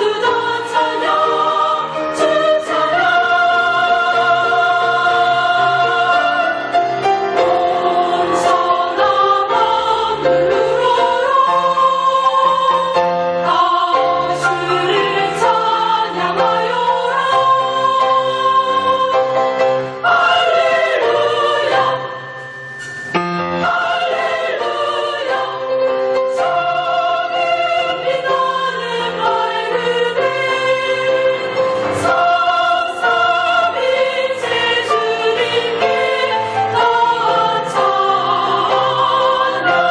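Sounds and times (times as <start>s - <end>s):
choir singing a hymn: 0.0s - 22.6s, 23.4s - 39.9s.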